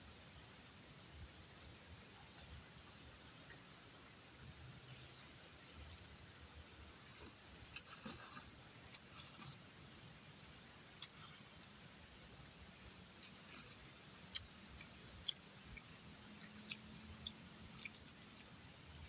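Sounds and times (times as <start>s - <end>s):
cricket chirping: 0.0s - 1.9s, 2.8s - 9.6s, 10.4s - 19.0s.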